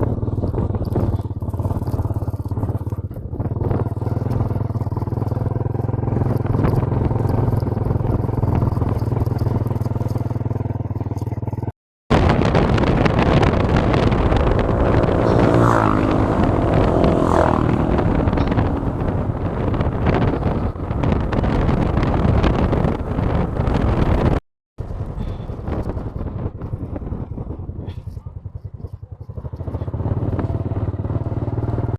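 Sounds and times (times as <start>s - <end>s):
motorcycle engine running: 0.0s - 31.9s
road and wind rush: 0.0s - 31.9s.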